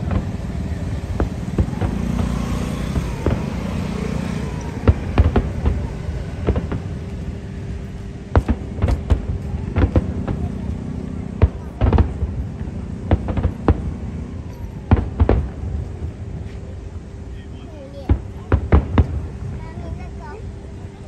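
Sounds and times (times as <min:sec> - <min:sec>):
fireworks bangs: 0:00.0 - 0:17.1, 0:17.9 - 0:20.4
low rumble: 0:00.0 - 0:21.0.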